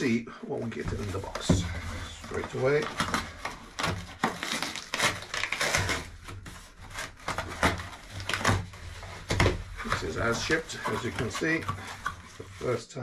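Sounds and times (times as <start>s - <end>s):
cardboard crinkling and knocking: 0.6s - 12.8s
packing tape ripping: 2.0s - 12.7s.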